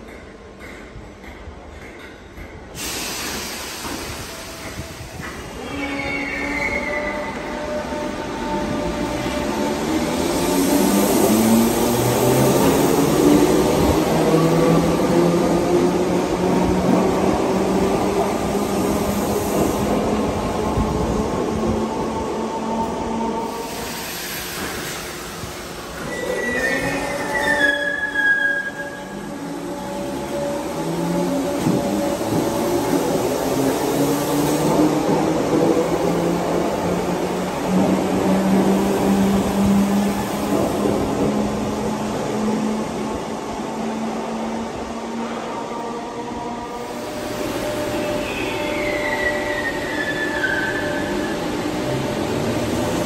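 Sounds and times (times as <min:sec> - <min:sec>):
electric train humming in tunnel: 0:00.0 - 0:53.0.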